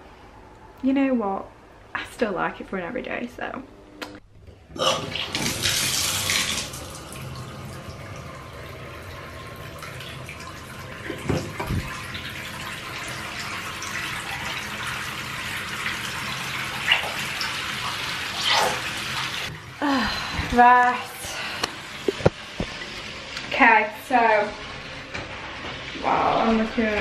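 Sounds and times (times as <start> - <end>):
water pouring into bathtub: 5.0 - 27.0.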